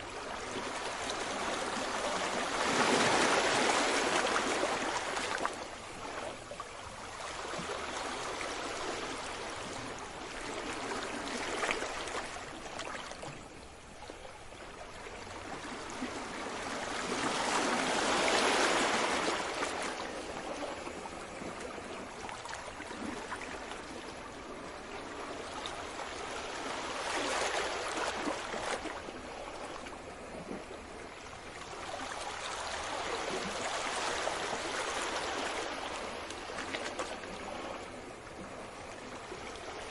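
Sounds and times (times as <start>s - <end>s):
sea waves washing in: 0.0s - 13.3s, 15.2s - 39.9s.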